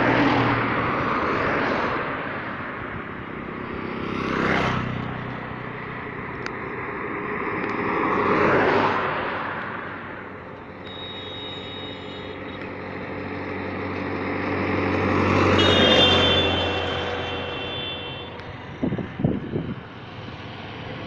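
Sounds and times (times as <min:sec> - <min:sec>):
jeep passing by: 0:03.3 - 0:21.0.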